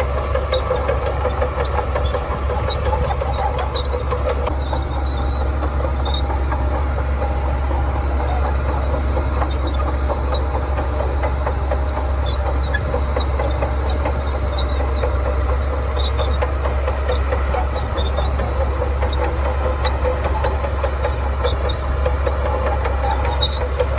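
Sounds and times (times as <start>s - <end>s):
bulldozer diesel engine rumble: 0.0s - 23.9s.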